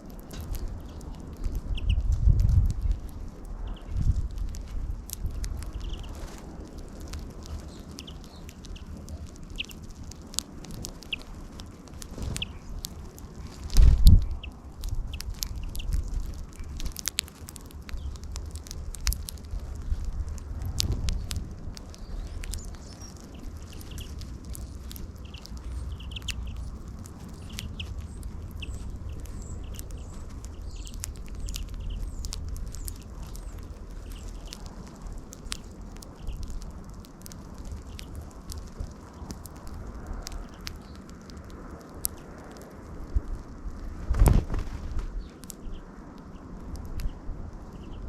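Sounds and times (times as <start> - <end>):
pecking clicks: 0.0 - 42.6
small birds chirping: 0.0 - 42.6, 45.1 - 48.0
low steady rumble: 0.0 - 48.0.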